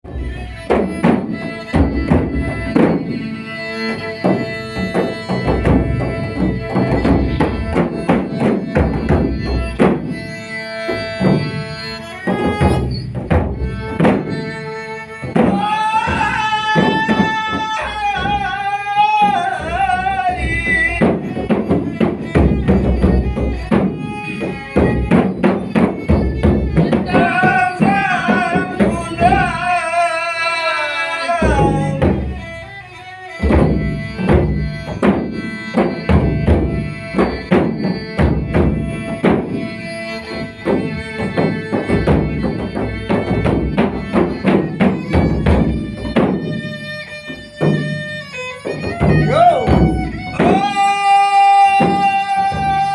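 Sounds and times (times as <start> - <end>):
drum-driven folk music: 0.0 - 52.9.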